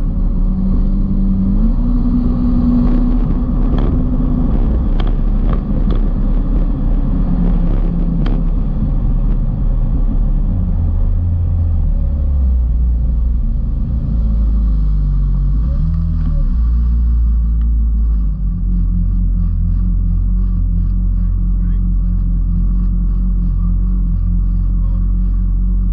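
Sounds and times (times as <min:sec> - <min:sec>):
jet ski engine running: 0:00.0 - 0:25.9.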